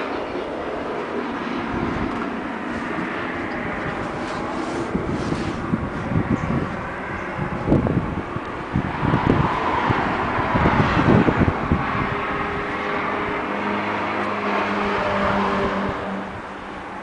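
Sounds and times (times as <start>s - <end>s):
car passing: 0.0s - 17.0s
wind buffeting microphone: 0.0s - 17.0s.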